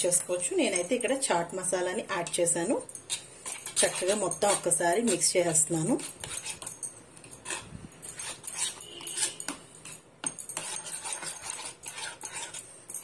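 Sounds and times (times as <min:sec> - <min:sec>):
metal spoon scraping ceramic bowl: 0:02.2 - 0:13.0.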